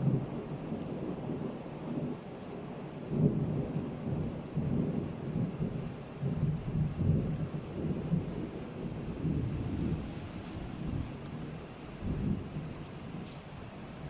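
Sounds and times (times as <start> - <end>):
rain hissing: 0.0 - 14.0
rolling thunder: 0.0 - 14.0.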